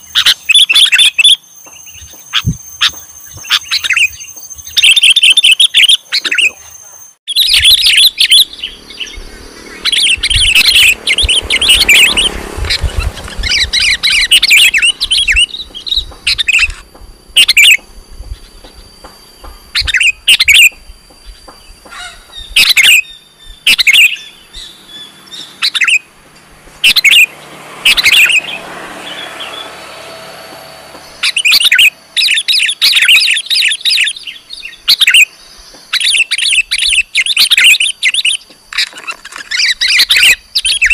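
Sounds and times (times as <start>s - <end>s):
bulbul calling: 0.0s - 40.9s.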